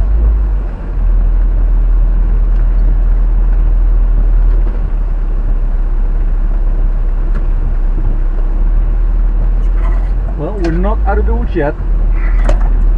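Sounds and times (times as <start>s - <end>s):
engine and tyre rumble: 0.0s - 12.9s.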